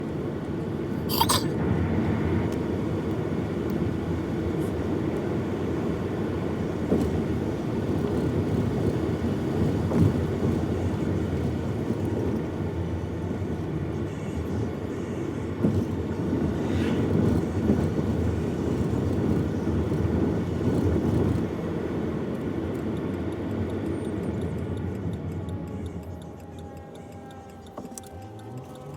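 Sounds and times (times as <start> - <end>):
car road rumble inside cabin: 0.0 - 28.9.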